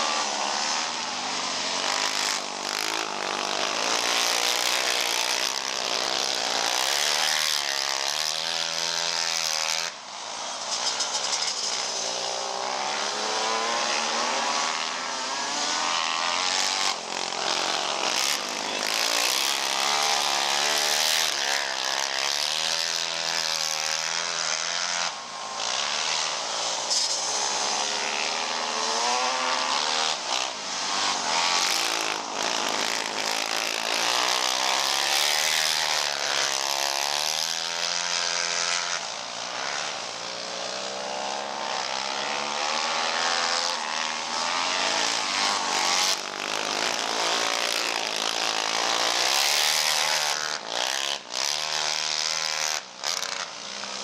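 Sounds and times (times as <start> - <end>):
quad engines revving: 0.0 - 54.0.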